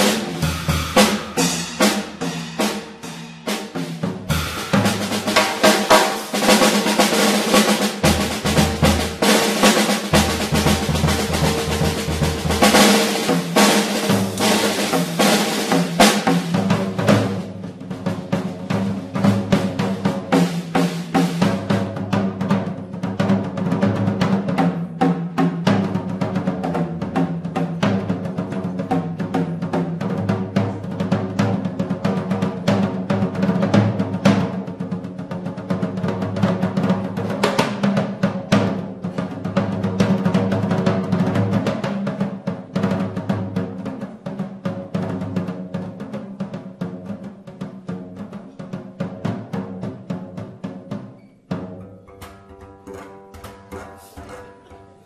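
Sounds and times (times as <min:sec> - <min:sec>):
drum solo: 0:00.0 - 0:55.0.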